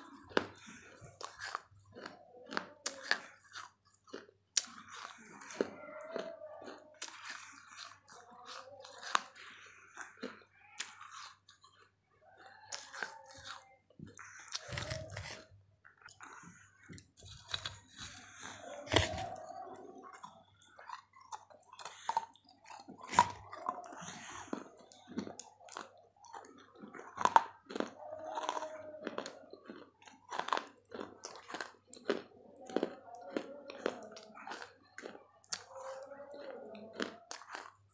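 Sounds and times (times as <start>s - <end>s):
crunchy chewing of baked clay: 0.0s - 37.9s.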